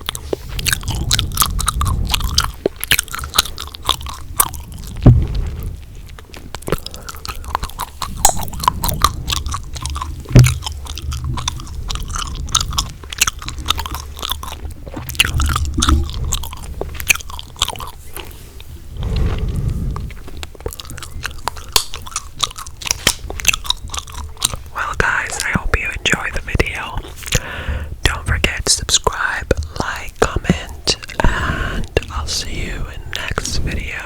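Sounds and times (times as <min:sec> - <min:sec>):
gum chewing: 0:00.0 - 0:34.0.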